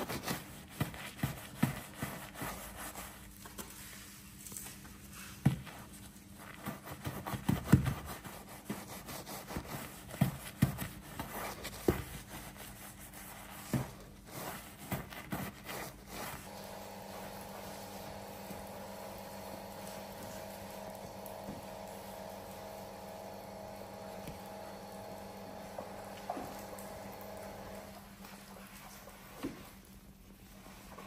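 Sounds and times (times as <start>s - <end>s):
brush scrubbing swishes: 0.0s - 31.0s.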